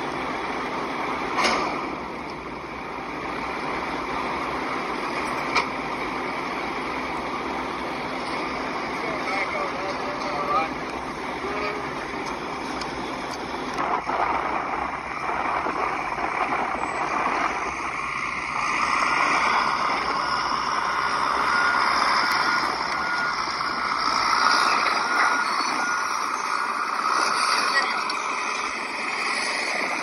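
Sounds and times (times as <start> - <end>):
bulldozer running: 0.0 - 30.0.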